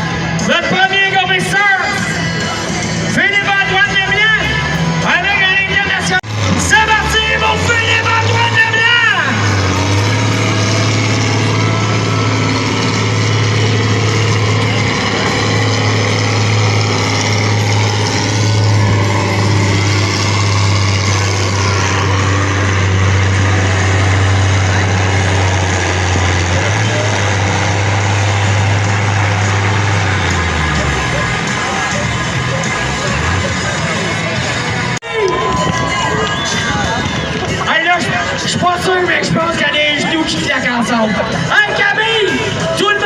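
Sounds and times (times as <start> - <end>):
tractor engine under heavy load: 0.0 - 43.0.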